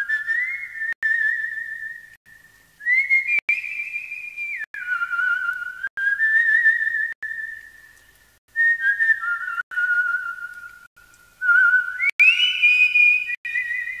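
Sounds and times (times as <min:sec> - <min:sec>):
person whistling slow tune: 0:00.0 - 0:14.0.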